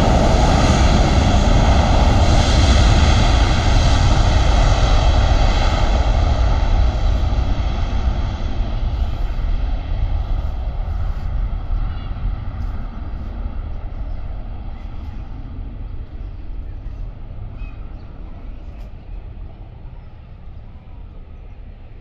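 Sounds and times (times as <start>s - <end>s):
jet engine roar with fan whine: 0.0s - 22.0s.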